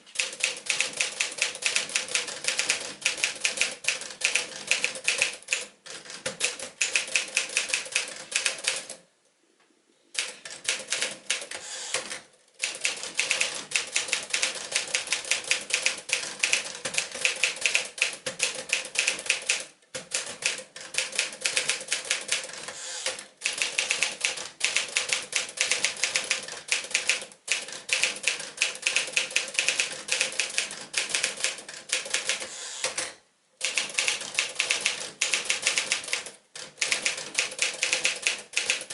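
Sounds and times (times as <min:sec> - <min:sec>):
typewriter keys striking: 0:00.2 - 0:09.0, 0:10.2 - 0:38.9.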